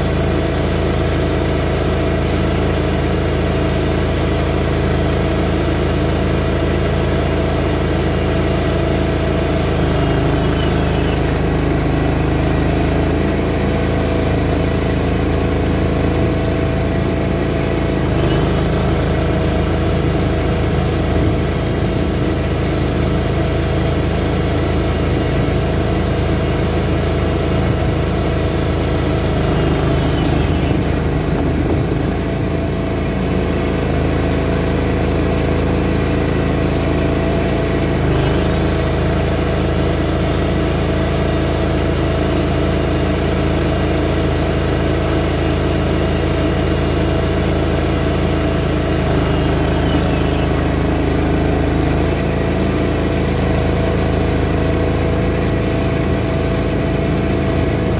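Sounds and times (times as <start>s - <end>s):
mower engine running: 0.0s - 57.9s.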